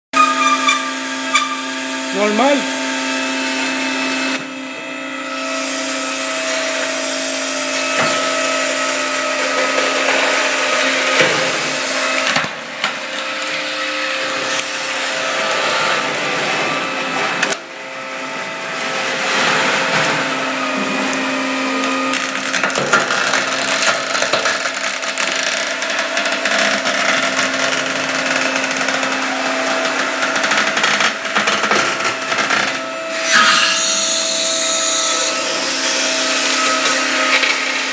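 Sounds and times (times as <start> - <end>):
motor whine: 0.2 - 37.9.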